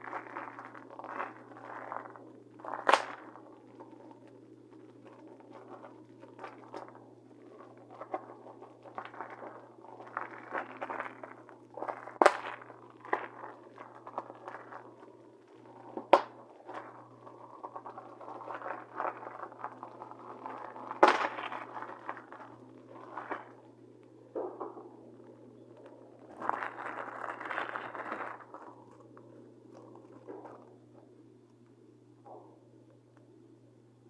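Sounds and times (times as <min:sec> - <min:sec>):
packaging crinkling: 0:00.0 - 0:24.2, 0:25.0 - 0:31.0.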